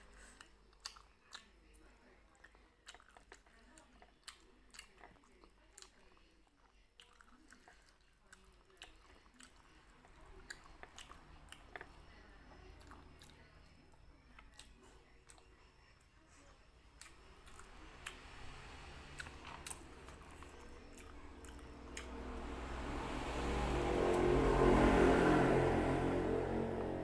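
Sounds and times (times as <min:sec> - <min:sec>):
chewing and biting: 0:00.0 - 0:22.7.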